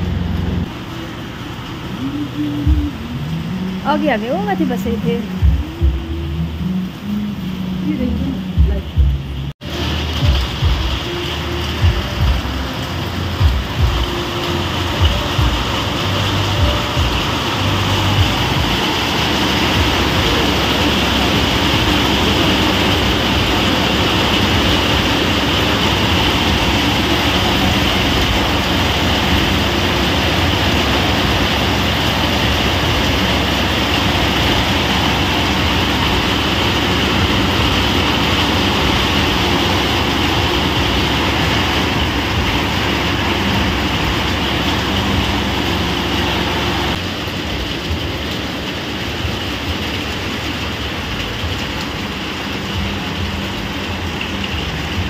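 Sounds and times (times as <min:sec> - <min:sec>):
heavy rain and hail on pavement: 0:08.0 - 0:55.0.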